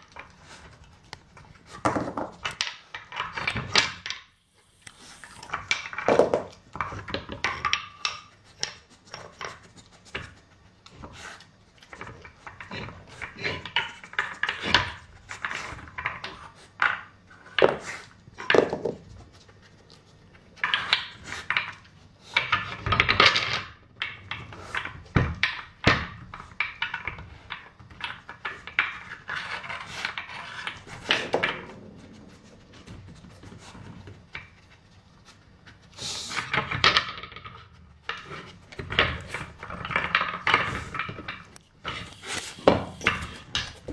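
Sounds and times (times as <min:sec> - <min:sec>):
wooden puzzle pieces knocking: 0:00.0 - 0:04.3, 0:05.4 - 0:10.4, 0:11.9 - 0:19.4, 0:20.4 - 0:34.7, 0:36.4 - 0:43.9.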